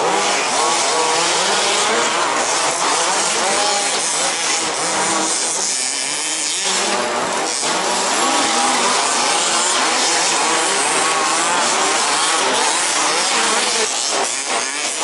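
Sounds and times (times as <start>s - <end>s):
remote-control car motors whining: 0.0s - 15.0s.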